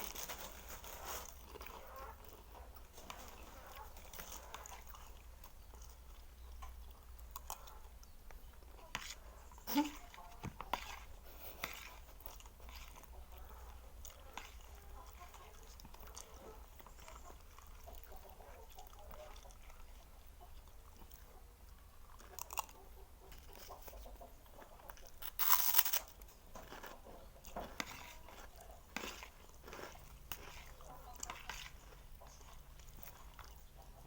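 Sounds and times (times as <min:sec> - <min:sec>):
chewing with small crunches: 0:00.0 - 0:34.0.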